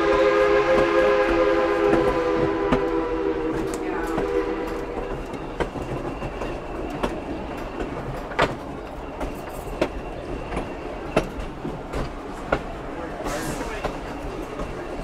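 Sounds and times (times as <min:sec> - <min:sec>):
train wheels rumbling on track: 0:00.0 - 0:15.0
sharp clicks at rail joints: 0:01.8 - 0:15.0.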